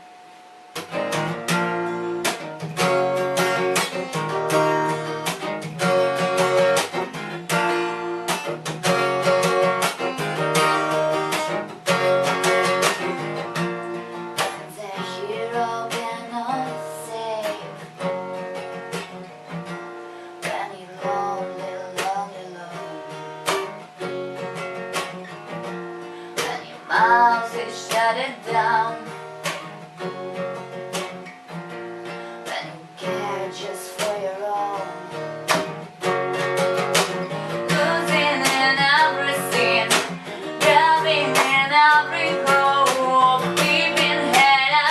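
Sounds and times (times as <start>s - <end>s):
acoustic guitar strumming chords: 0.0s - 44.9s.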